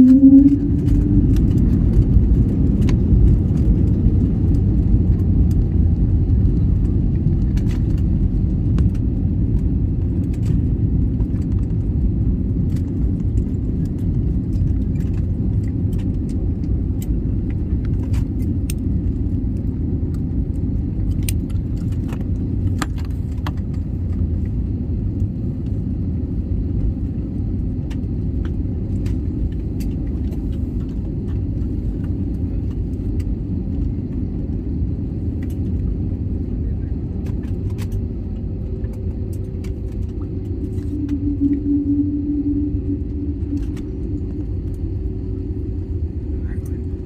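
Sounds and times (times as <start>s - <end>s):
airliner engines and airflow rumble: 0.0s - 47.0s.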